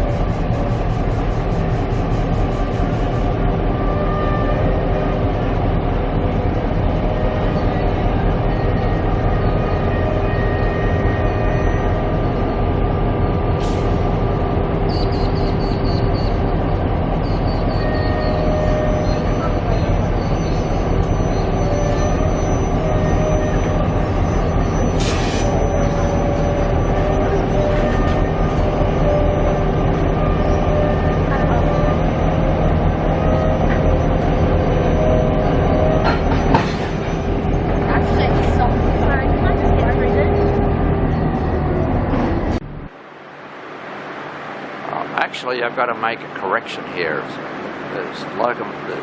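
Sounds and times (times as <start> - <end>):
locomotives droning: 0.0 - 49.0.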